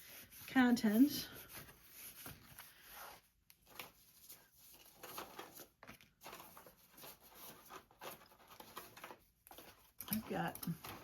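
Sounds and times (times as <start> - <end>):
paper and card rustling: 0.0 - 11.0.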